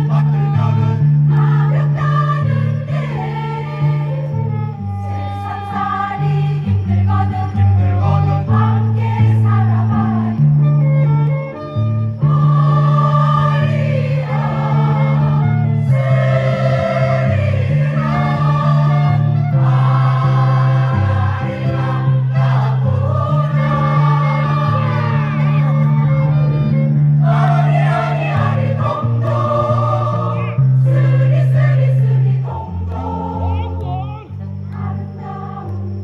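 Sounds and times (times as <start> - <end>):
instrumental accompaniment: 0.0 - 36.0
mixed choir singing: 0.0 - 36.0.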